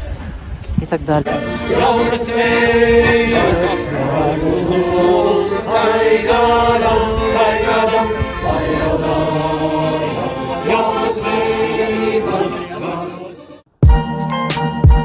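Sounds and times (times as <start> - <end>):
accordion: 1.0 - 15.0
group of people singing: 1.2 - 13.6.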